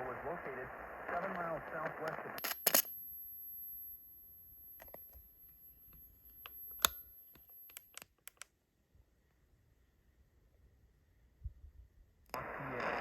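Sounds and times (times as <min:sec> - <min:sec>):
faint high whine: 0:00.0 - 0:08.0, 0:08.9 - 0:13.0.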